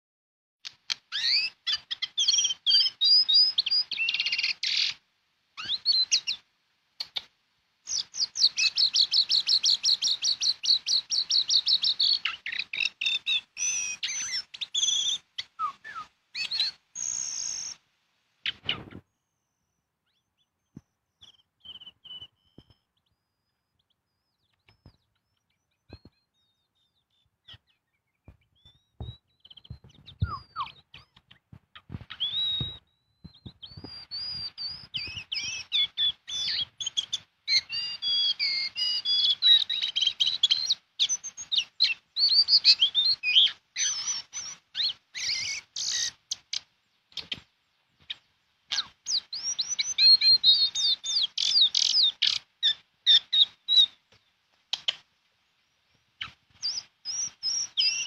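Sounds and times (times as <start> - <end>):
high chirping calls: 0.9 - 5.0, 5.6 - 6.4, 7.9 - 17.8, 18.4 - 55.1, 56.0 - 58.0.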